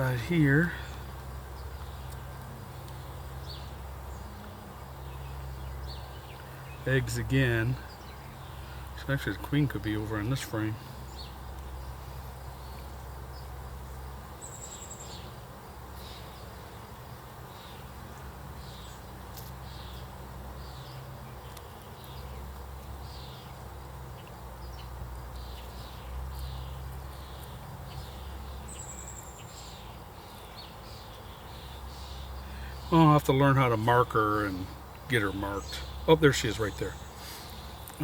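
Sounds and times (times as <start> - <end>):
honey bees humming: 0.0 - 38.0.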